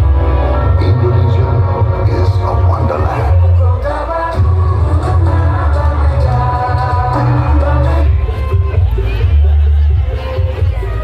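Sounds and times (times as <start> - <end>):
heavy bass: 0.0 - 11.0
loud music from large loudspeakers: 0.0 - 11.0.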